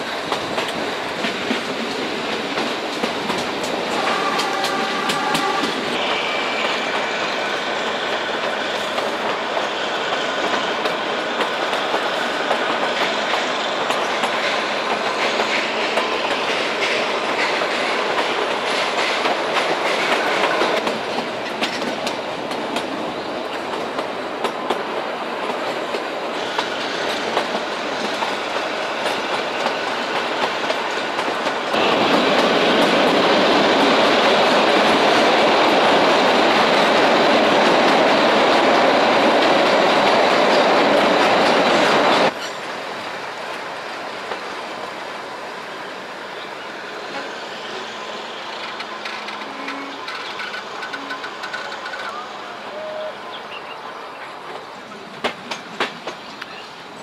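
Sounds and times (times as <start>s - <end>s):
train wheels rumbling and rattling: 0.0s - 52.6s, 54.3s - 57.0s.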